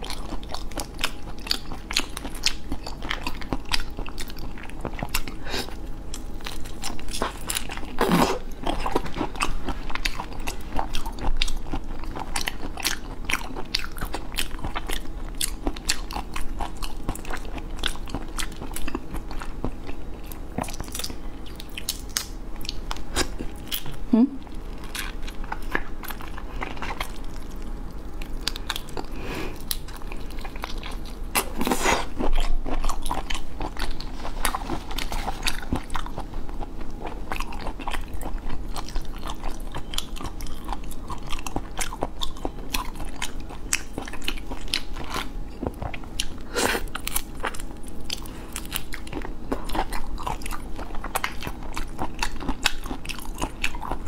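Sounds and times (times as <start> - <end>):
chewing crunchy shrimp: 0.0 - 54.0.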